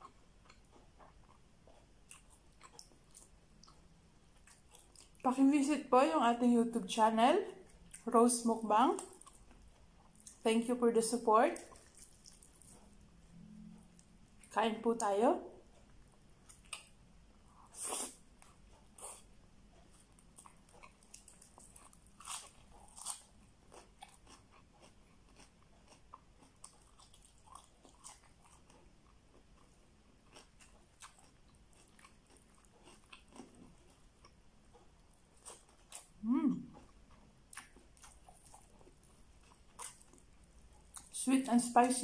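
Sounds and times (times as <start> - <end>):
chewing and crunching food: 0.0 - 5.4, 7.4 - 42.0.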